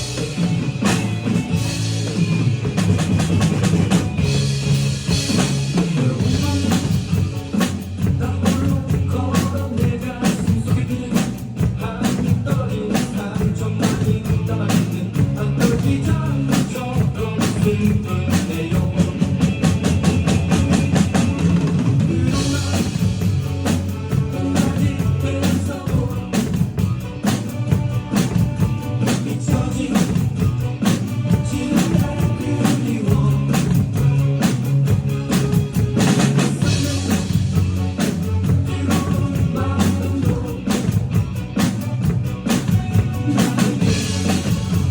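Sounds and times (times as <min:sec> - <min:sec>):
bass line: 0:00.0 - 0:44.9
drum kit playing a steady beat: 0:00.0 - 0:44.9
person singing: 0:05.7 - 0:44.9.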